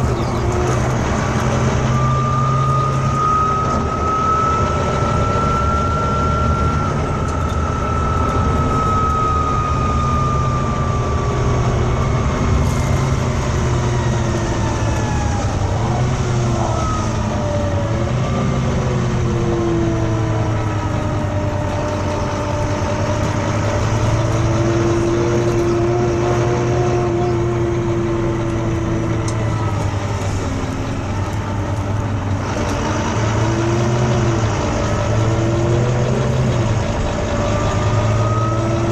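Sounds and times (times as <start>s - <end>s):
bus diesel engine running: 0.0s - 38.9s
wailing whine sliding in pitch: 0.0s - 38.9s.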